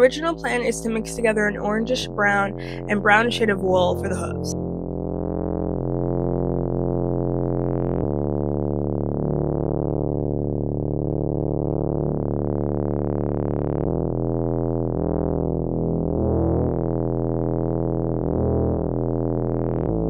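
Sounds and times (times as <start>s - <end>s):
synthesizer chords: 0.0s - 20.0s.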